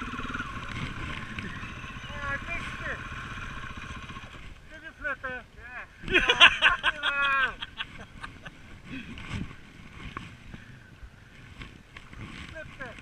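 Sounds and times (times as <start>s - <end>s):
outdoor rustling: 0.0s - 13.0s.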